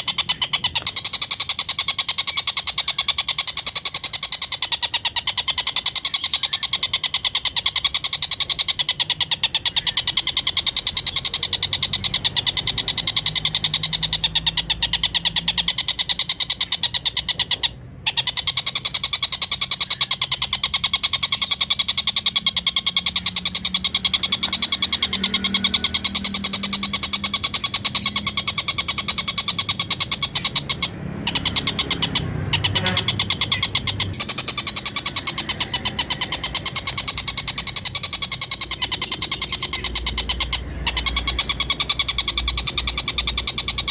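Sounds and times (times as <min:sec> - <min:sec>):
kingfisher cackling call: 0:00.0 - 0:43.9.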